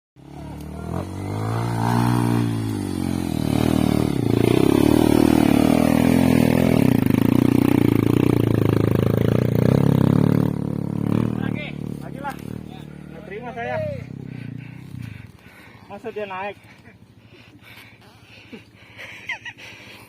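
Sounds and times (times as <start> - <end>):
motorcycle engine revving: 0.2 - 17.4.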